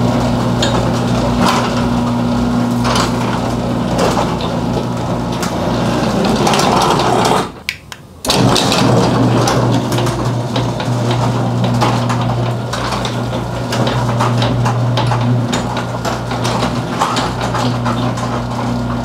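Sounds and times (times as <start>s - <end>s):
door rollers rattling and clicking: 0.0s - 19.0s
garage door opener motor humming: 0.0s - 19.0s.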